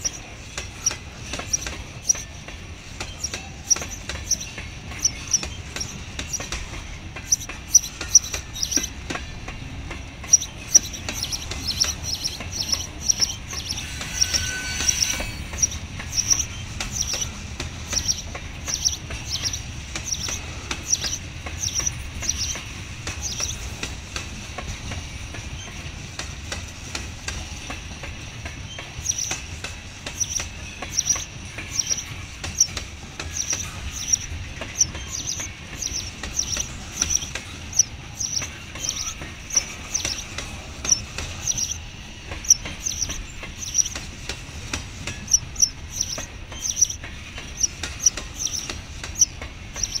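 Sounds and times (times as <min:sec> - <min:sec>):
bird chirping: 0:00.0 - 0:02.4, 0:03.0 - 0:06.6, 0:07.2 - 0:09.1, 0:10.0 - 0:23.6, 0:28.8 - 0:29.4, 0:30.1 - 0:44.1, 0:45.3 - 0:50.0
freight train rumbling past: 0:00.0 - 0:50.0
train clicks and knocks: 0:00.0 - 0:50.0.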